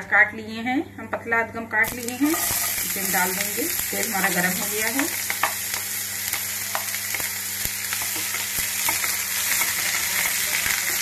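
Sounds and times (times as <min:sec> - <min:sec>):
onions sizzling in oil: 0:01.8 - 0:11.0.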